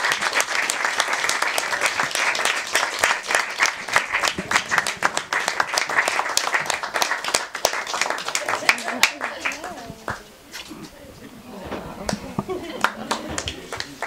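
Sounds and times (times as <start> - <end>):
audience applauding: 0.0 - 10.3, 11.6 - 14.0.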